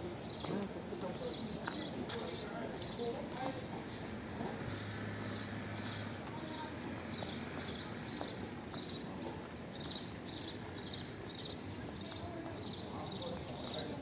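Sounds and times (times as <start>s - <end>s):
low background murmur: 0.0s - 14.0s.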